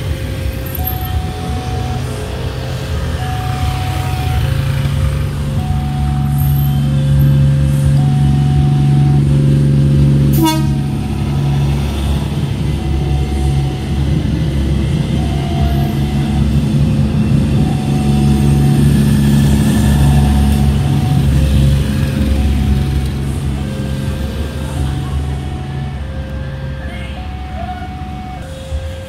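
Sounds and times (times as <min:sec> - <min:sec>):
train rumbling past: 0:00.0 - 0:29.0
level crossing alarm two tones: 0:00.3 - 0:29.0.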